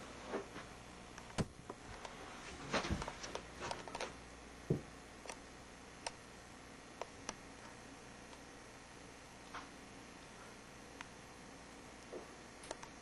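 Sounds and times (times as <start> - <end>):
room hiss: 0.0 - 13.0.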